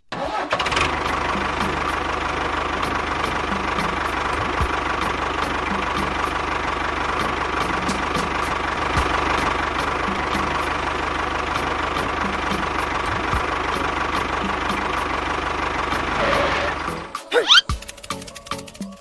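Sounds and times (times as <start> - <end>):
small engine idling: 0.1 - 19.0.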